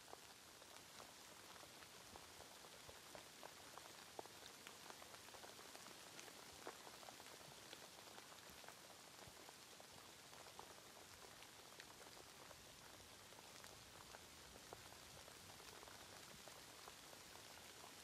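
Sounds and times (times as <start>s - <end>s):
raindrop ticks: 0.0s - 18.0s
rainfall hiss: 0.0s - 18.0s.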